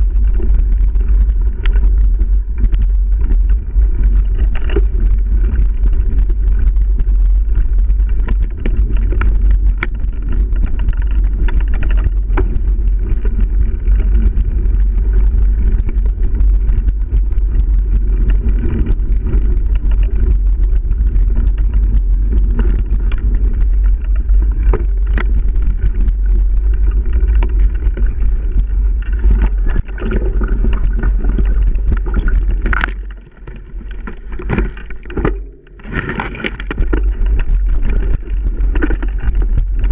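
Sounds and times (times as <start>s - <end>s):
bike rattling over bumps: 0.0s - 39.9s
wind on microphone: 0.0s - 39.9s.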